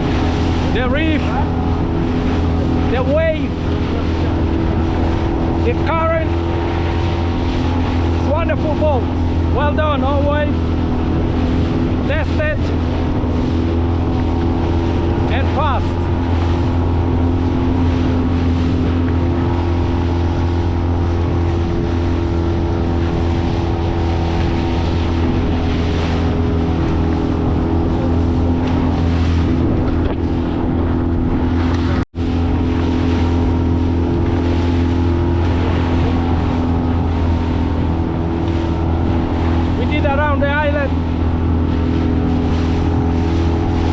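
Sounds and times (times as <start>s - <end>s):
outboard motor running: 0.0s - 43.9s
water rushing: 0.0s - 43.9s
wind: 0.0s - 43.9s.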